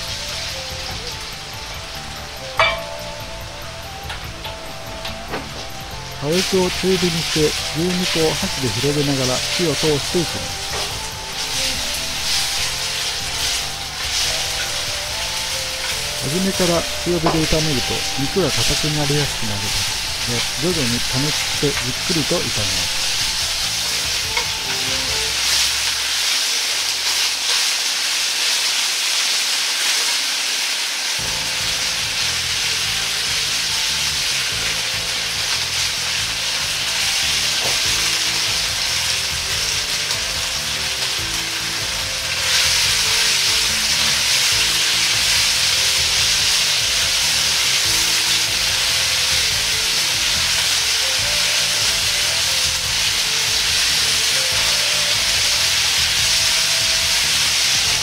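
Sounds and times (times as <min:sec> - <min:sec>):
meat sizzling in oil: 0:00.0 - 0:58.0.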